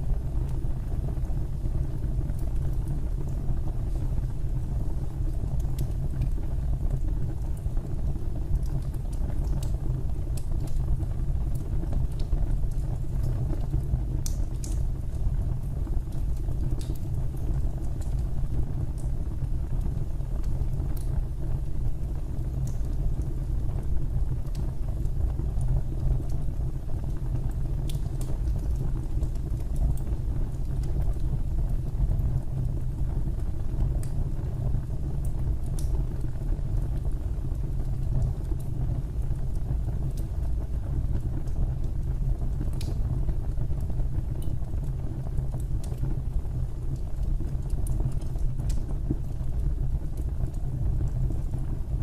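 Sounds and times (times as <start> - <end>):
faint fire crackles and pops: 0.0 - 52.0
fireplace fire rumbling: 0.0 - 52.0.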